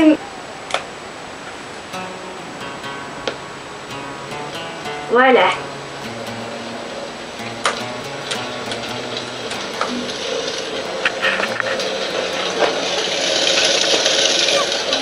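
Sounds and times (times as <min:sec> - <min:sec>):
fire crackling through speaker: 0:02.8 - 0:15.0.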